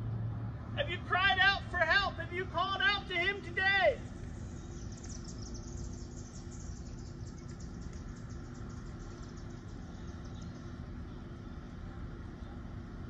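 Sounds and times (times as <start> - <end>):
traffic rumble: 0.0 - 13.0
wind: 0.0 - 13.0.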